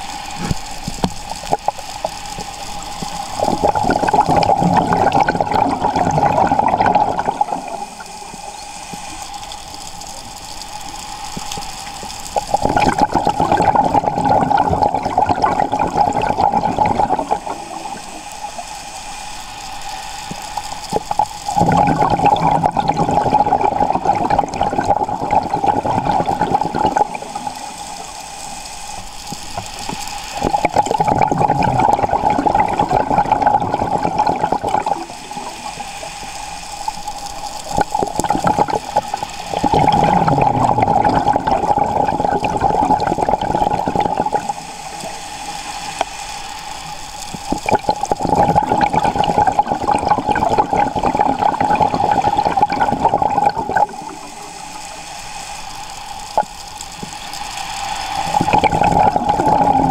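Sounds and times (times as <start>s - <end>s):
diver's bubbles gurgling underwater: 0.0s - 9.1s, 11.4s - 18.6s, 20.3s - 28.2s, 29.2s - 36.0s, 36.9s - 45.3s, 47.3s - 54.8s, 58.1s - 59.9s.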